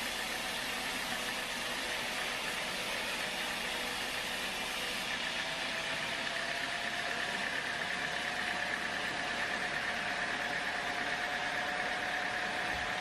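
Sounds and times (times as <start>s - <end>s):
sawmill machinery running: 0.0s - 13.0s
steady high whine: 0.0s - 13.0s.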